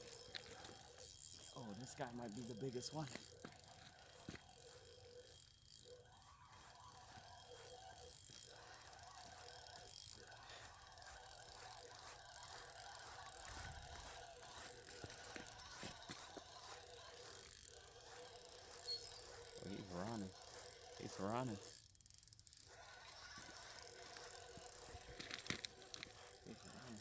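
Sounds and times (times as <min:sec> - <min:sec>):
fishing reel whirring: 0:00.0 - 0:27.0.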